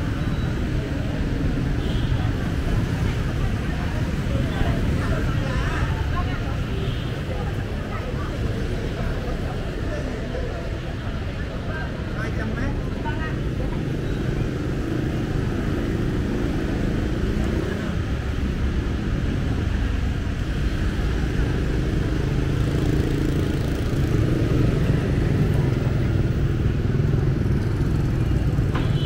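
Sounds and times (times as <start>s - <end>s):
motorbike engines in traffic: 0.0s - 29.0s.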